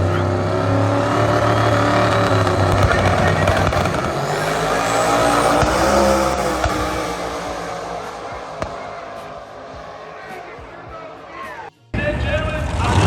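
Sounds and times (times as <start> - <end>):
drag race car engines: 0.0 - 11.7
rising engine whine: 0.0 - 11.7.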